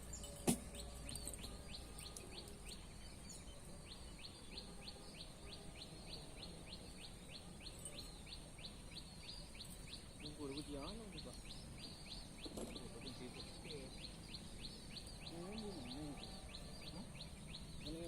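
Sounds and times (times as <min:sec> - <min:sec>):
bird chirping: 0:00.0 - 0:18.0
outdoor background noise: 0:00.0 - 0:18.0.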